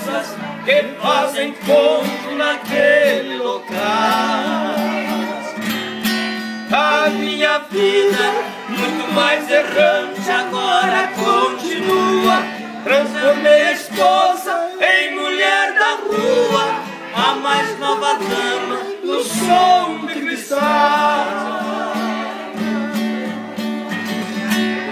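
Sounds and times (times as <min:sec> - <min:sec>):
men singing together: 0:00.0 - 0:05.8, 0:06.6 - 0:23.7
guitar accompaniment: 0:00.0 - 0:24.9.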